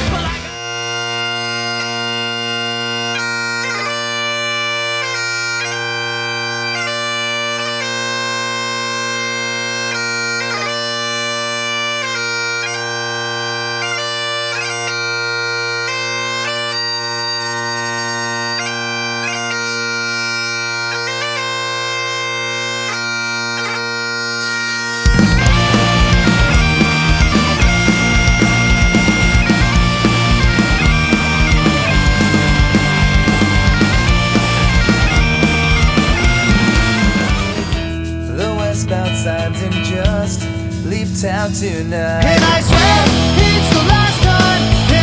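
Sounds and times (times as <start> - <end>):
bagpipes playing slow tune: 0.0 - 38.6.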